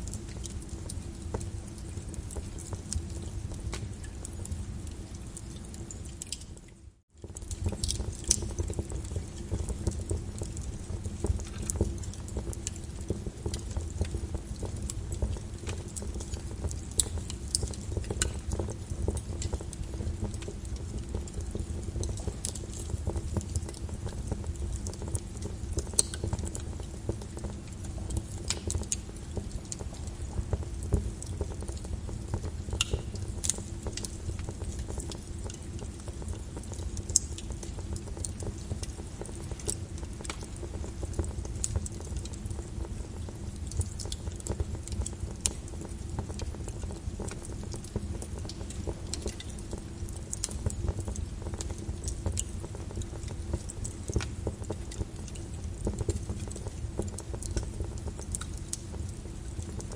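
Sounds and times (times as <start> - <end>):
molten lava crackling and popping: 0.0 - 59.9.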